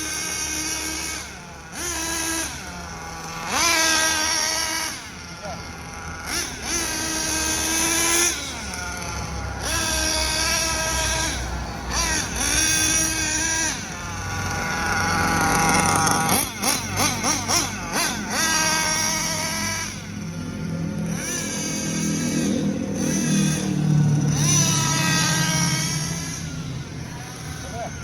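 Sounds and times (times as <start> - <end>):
rc car engine revving: 0.0 - 28.0.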